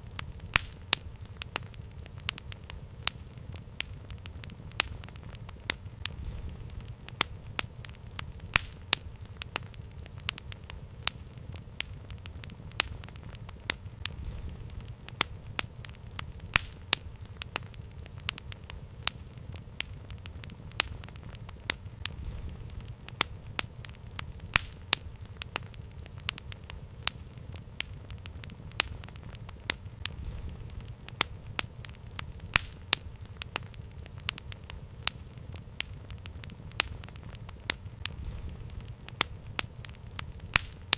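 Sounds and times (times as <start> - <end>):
campfire crackling and popping: 0.0 - 40.9
low rumble of flames: 0.0 - 40.9.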